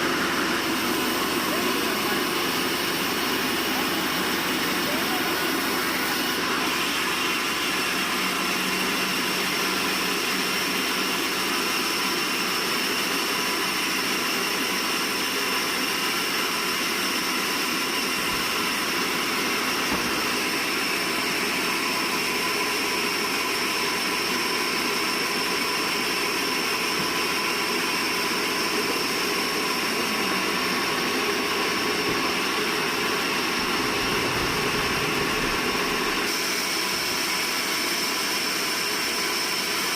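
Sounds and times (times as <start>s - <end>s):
sawmill machinery rushing: 0.0s - 39.9s.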